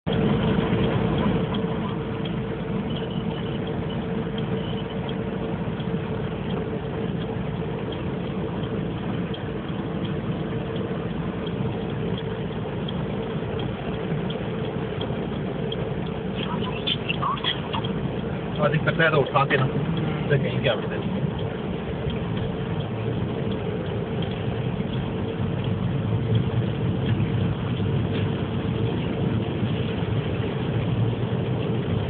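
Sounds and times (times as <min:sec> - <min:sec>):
car engine humming: 0:00.0 - 0:32.0
rain on car windscreen: 0:00.1 - 0:32.0.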